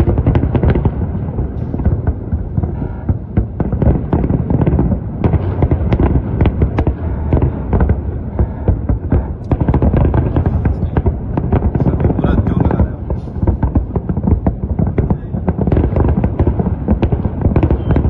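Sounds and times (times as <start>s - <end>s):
fireworks bangs and crackles: 0.0s - 18.0s
low rumble of explosions: 0.0s - 18.0s.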